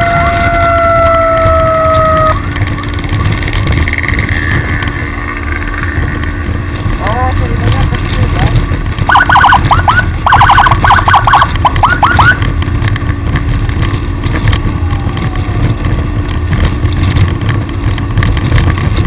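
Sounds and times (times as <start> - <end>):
vehicle running with road noise: 0.0 - 19.0.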